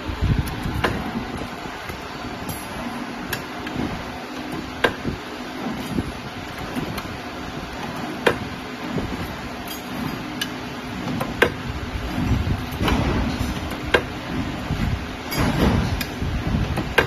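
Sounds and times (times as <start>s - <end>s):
steady machine hum: 0.0s - 17.0s
sharp clicks and knocks: 0.4s - 7.1s, 7.8s - 17.0s.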